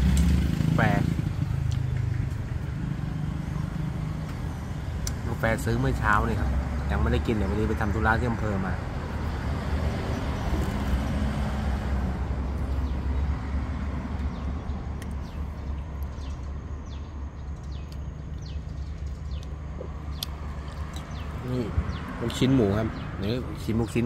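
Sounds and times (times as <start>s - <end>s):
road traffic rumble: 0.0s - 24.0s
small birds chirping: 0.0s - 24.0s
vehicle passing: 0.0s - 24.0s.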